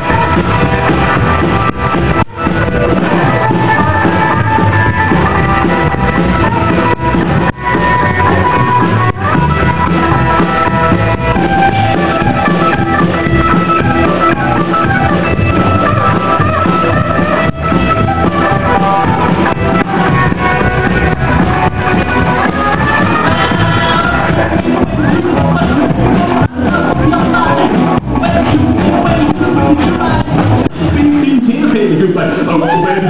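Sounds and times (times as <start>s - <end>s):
drums: 0.0s - 33.0s
electric guitar: 0.0s - 33.0s.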